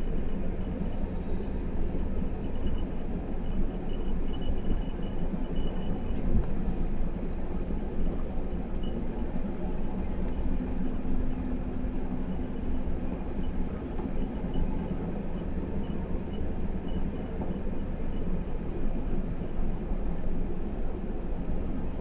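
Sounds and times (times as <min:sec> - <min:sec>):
truck engine and road rumble: 0:00.0 - 0:22.0.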